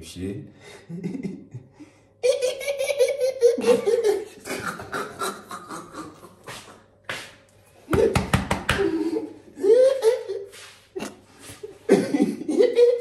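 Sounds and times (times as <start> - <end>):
young men laughing: 0.7 - 7.0, 7.9 - 13.0.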